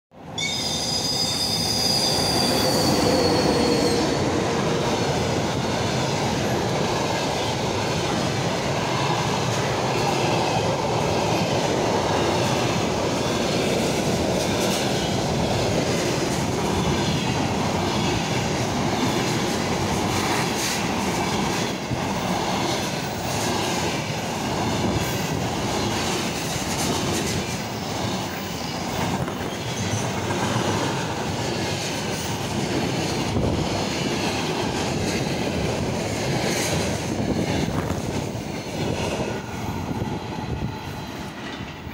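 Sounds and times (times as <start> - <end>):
train wheels rumbling on rails: 0.1 - 41.9.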